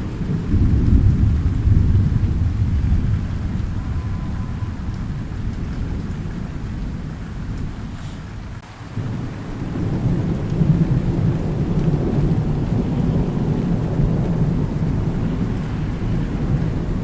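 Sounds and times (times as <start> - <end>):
continuous rain: 0.0 - 17.0
low thunder rumbling: 0.0 - 17.0.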